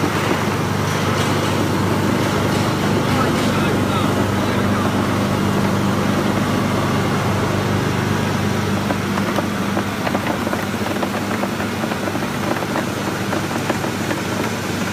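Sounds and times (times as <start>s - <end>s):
machinery motor hum: 0.0s - 14.9s.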